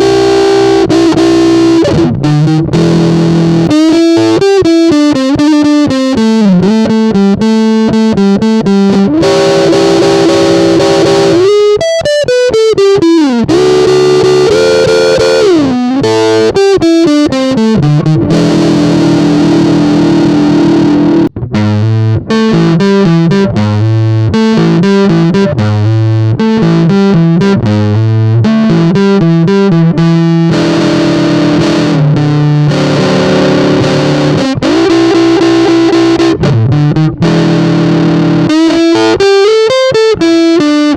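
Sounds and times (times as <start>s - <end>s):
fuzz electric guitar playing chords: 0.0s - 40.9s.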